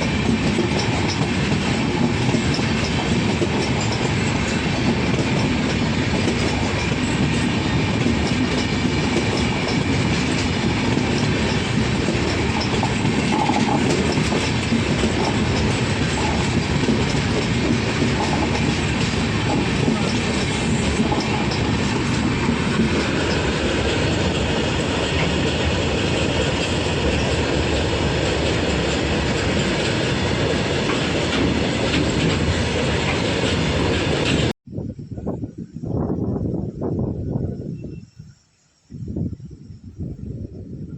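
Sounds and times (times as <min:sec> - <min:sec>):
wheels clattering over rails: 0:00.0 - 0:34.5
train passing at high speed: 0:00.0 - 0:38.0.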